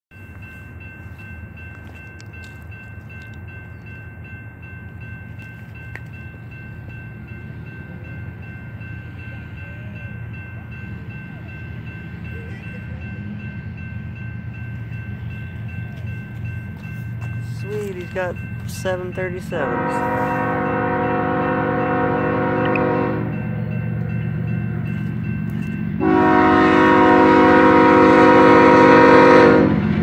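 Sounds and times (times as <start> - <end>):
distant locomotive rumble: 0.2 - 30.0.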